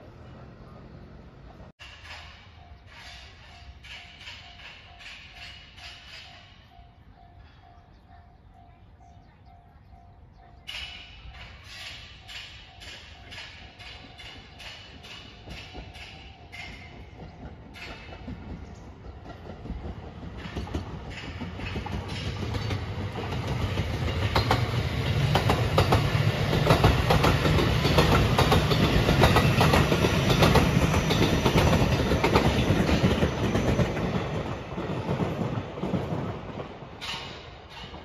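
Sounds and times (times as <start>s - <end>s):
train wheels clicking over rail joints: 1.7s - 7.9s, 10.6s - 38.0s.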